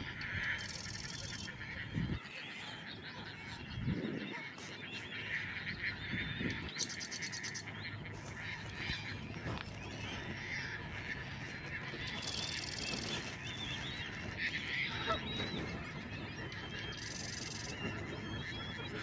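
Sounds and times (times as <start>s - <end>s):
birds calling and chirping: 0.0s - 19.0s
rapid high bird trill: 0.0s - 19.0s.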